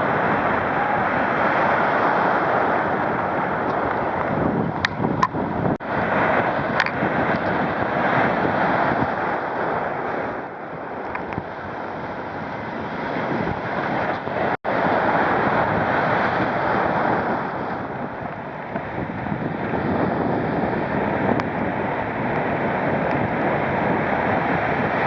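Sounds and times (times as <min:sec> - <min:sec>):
ocean surf breaking on beach: 0:00.0 - 0:25.0
wind buffeting microphone: 0:00.0 - 0:25.0.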